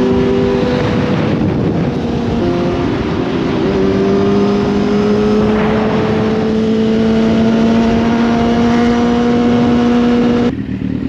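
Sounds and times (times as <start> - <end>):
high-revving sports engine: 0.0 - 11.0.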